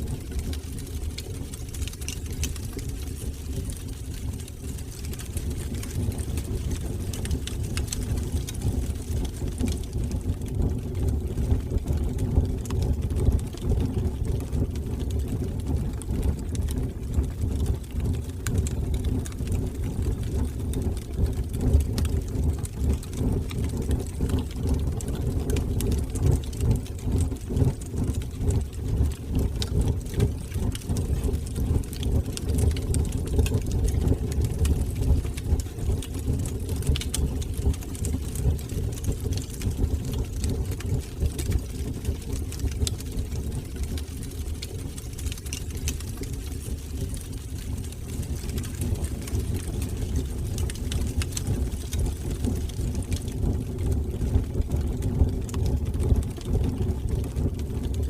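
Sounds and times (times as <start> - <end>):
fire rumbling and crackling: 0.0 - 58.0.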